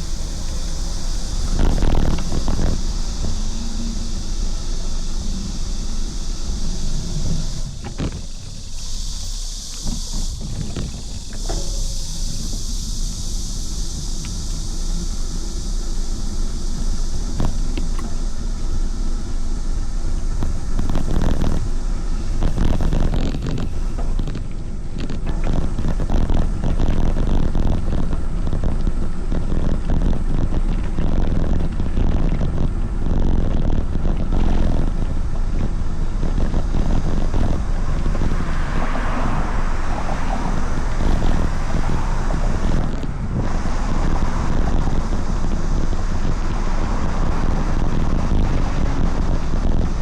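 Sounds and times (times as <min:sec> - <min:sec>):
hissy rushing sound: 0:00.0 - 0:25.0, 0:34.6 - 0:50.0
road noise: 0:00.0 - 0:50.0
wind buffeting microphone: 0:00.0 - 0:50.0.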